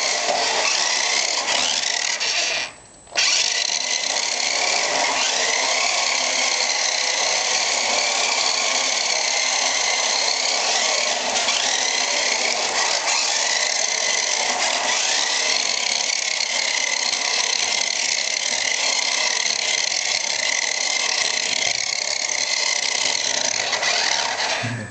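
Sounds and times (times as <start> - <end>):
toy car motor whining: 0.0 - 24.9.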